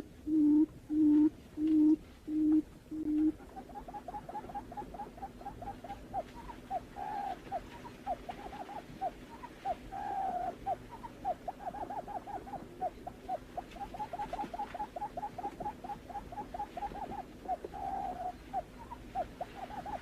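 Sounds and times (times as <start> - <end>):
bird low hooting calls: 0.0 - 20.0
faint steady hum: 0.0 - 20.0.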